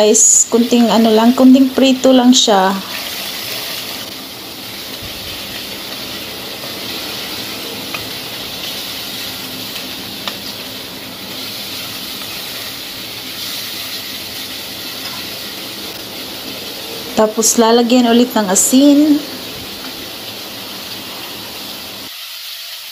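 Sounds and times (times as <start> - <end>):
meat sizzling in oil: 0.0 - 22.9.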